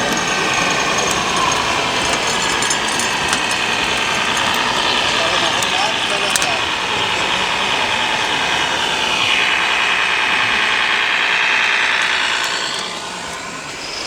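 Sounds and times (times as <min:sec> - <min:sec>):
model truck whine and drone: 0:00.0 - 0:14.0.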